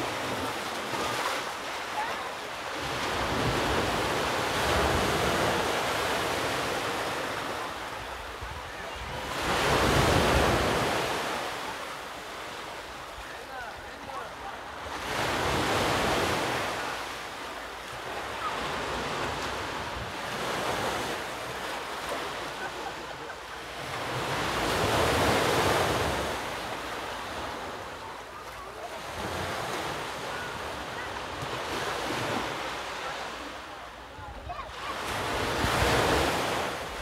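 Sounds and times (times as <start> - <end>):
ocean waves washing ashore: 0.0 - 37.0.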